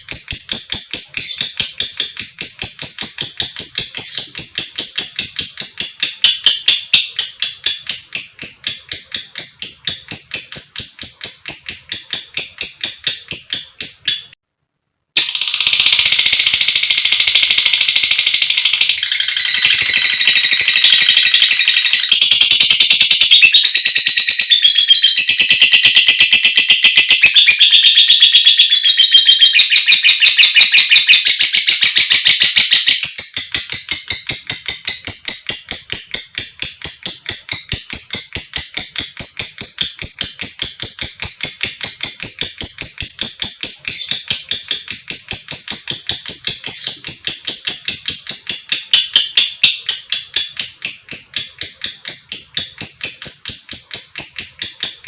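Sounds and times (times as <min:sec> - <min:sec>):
lovebird chattering trill: 0:00.0 - 0:14.4, 0:15.2 - 0:55.0
lovebird ticking calls: 0:00.0 - 0:14.4, 0:15.2 - 0:55.0.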